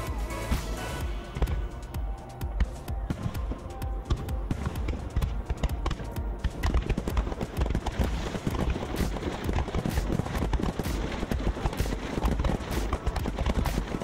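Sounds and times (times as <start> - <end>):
low booms of fireworks: 0.7 - 14.0
fireworks pops and crackles: 2.5 - 14.0.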